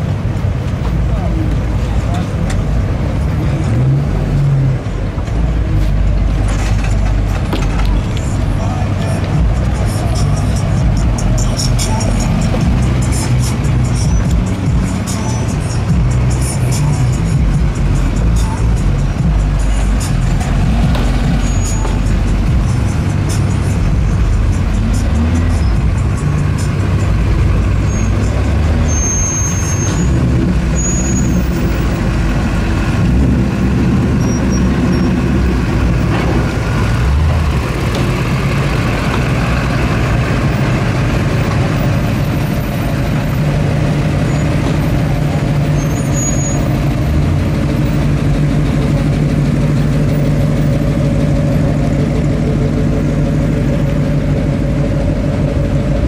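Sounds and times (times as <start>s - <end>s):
cars rolling past: 0.0s - 56.0s.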